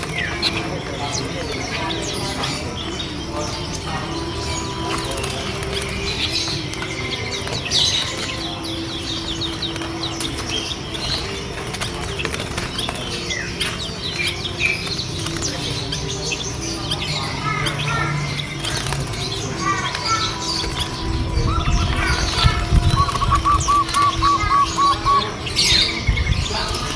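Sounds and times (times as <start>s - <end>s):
caged birds chirping: 0.0s - 26.9s.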